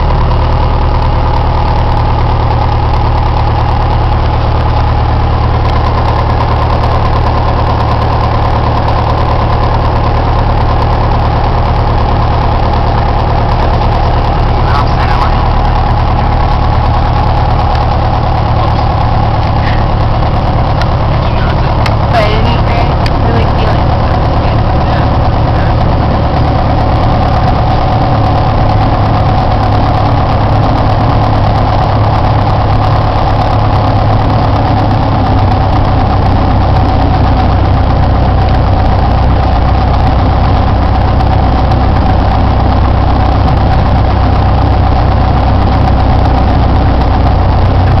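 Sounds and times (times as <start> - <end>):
aircraft engine and propeller running: 0.0 - 48.0.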